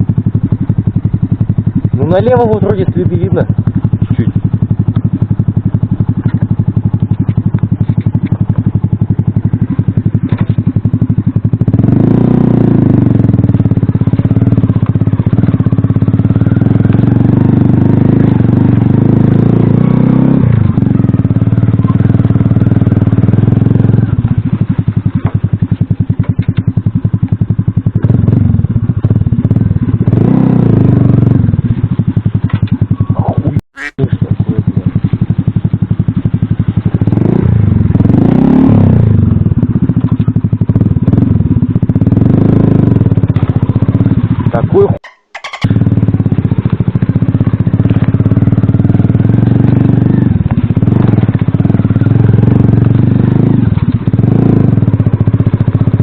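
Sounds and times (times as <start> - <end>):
moped engine revving: 0.0 - 56.0.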